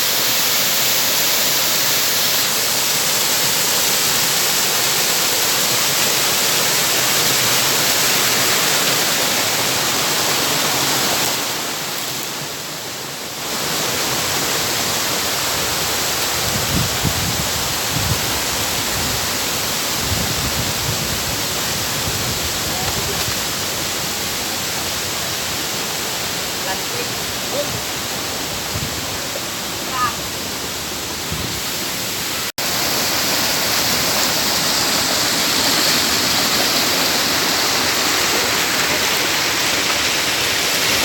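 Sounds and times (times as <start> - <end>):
rushing water: 0.0 - 41.0.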